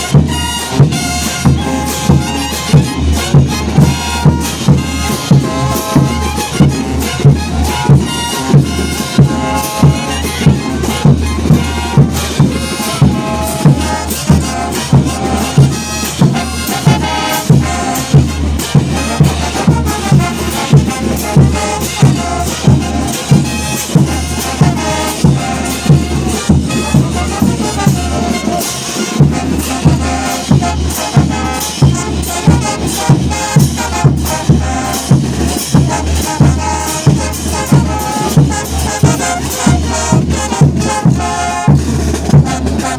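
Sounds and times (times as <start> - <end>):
bass drum beat: 0.0 - 42.9
trumpets and trombones: 0.0 - 42.9.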